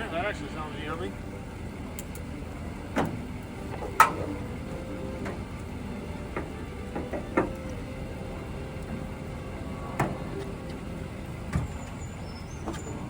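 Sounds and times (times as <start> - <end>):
truck cab hum: 0.0 - 13.0.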